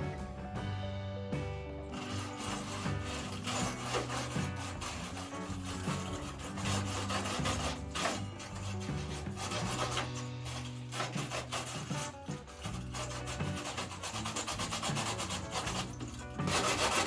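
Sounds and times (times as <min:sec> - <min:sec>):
background music with bassline: 0:00.0 - 0:17.0
wire brush scrubbing steel: 0:01.9 - 0:17.0.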